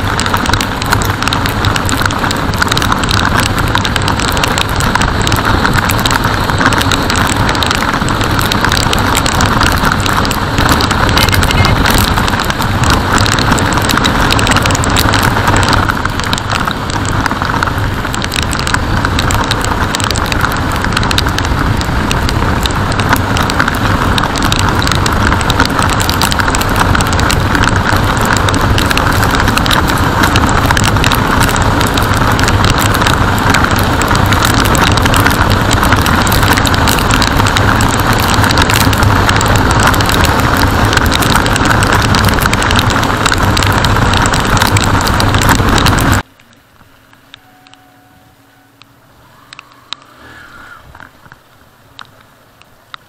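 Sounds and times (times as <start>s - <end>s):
wind rushing on microphone: 0.0s - 46.2s
motorcycle engine: 0.0s - 51.5s
constant crackling: 0.0s - 53.0s.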